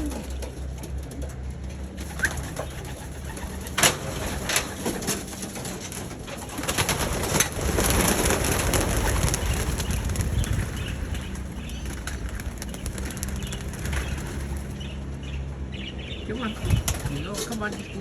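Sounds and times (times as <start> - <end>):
pigeons cooing: 0.0 - 15.0, 15.8 - 18.0.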